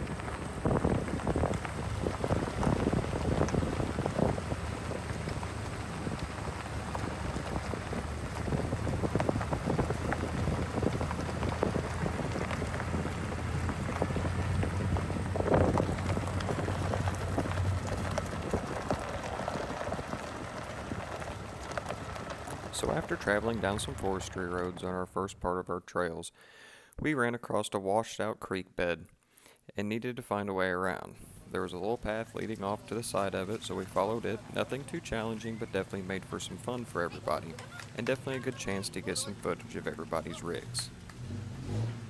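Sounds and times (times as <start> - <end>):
tyres crackling over gravel: 0.0 - 25.2, 31.4 - 42.0.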